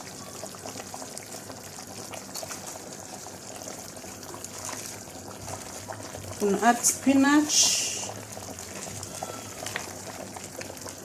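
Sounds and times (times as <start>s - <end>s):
stew boiling with pops: 0.0s - 11.0s.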